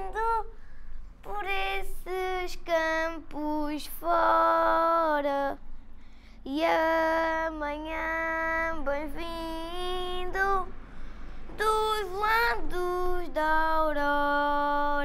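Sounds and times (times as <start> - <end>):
boy singing unaccompanied: 0.0 - 0.6, 1.2 - 5.6, 6.4 - 10.7, 11.6 - 15.0.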